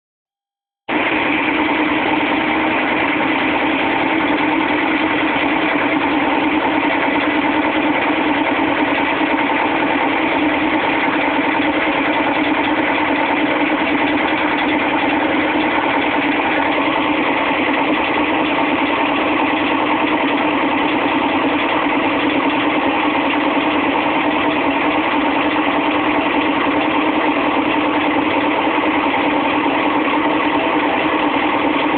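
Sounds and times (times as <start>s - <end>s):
washing machine spinning: 1.0s - 31.9s.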